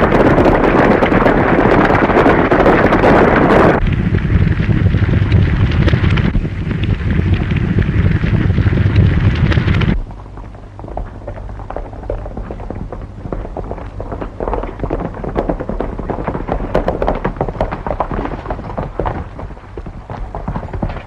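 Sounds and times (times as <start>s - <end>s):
horses galloping on dry ground: 0.0s - 21.0s
low film soundtrack hum: 0.0s - 21.0s.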